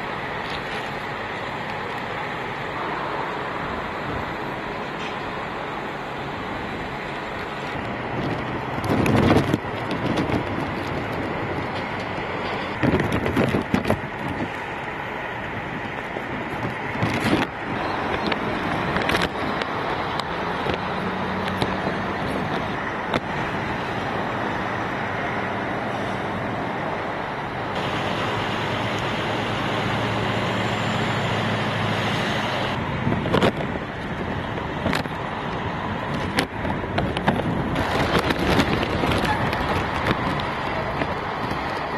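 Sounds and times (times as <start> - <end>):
cars driving past: 0.0 - 41.9.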